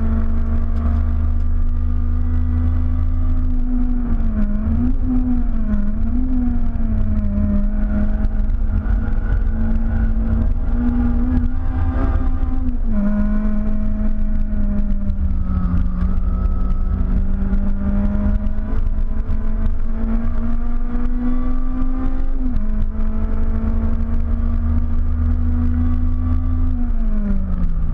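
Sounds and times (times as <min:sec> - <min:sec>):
car engine at high revs: 0:00.0 - 0:27.9
road and drivetrain rumble: 0:00.0 - 0:27.9.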